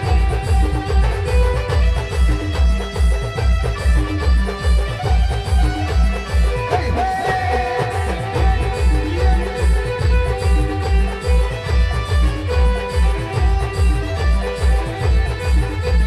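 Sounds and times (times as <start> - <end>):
heavy bass drum beat: 0.0 - 16.0.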